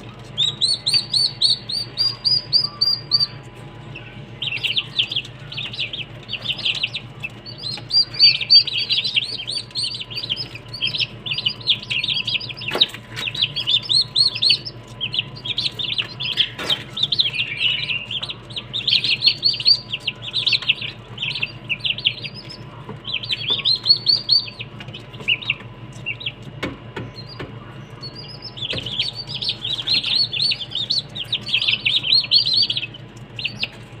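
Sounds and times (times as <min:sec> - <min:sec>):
small birds chirping: 0:00.0 - 0:34.0
steady low hum: 0:00.0 - 0:34.0.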